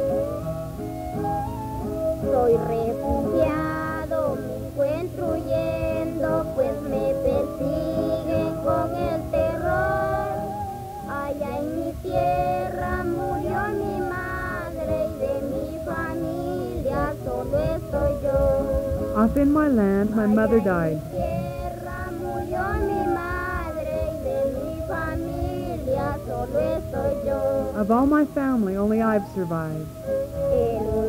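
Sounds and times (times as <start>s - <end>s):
guitar accompaniment: 0.0s - 31.0s
person singing high melody: 2.2s - 28.1s, 30.4s - 31.0s.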